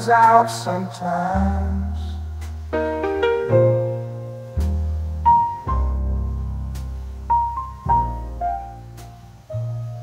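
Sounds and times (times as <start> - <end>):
low bass notes: 0.0 - 10.0
piano chords: 1.2 - 10.0.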